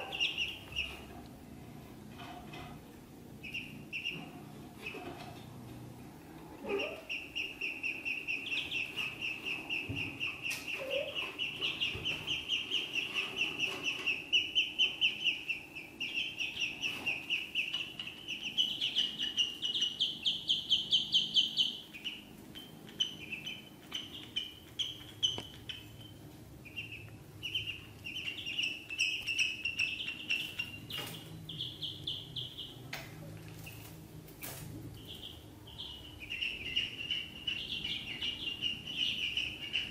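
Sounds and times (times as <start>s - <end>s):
ducklings peeping: 0.0s - 5.5s, 6.4s - 39.9s.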